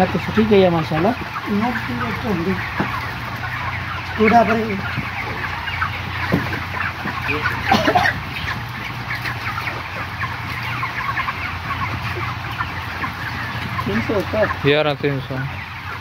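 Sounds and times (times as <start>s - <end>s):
chickens clucking and cheeping: 0.0s - 16.0s.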